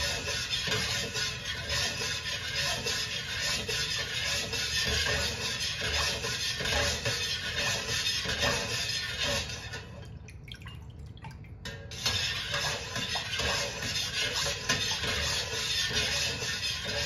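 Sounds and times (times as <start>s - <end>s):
metal spoon scraping a pot: 0.0s - 10.3s, 11.6s - 17.0s.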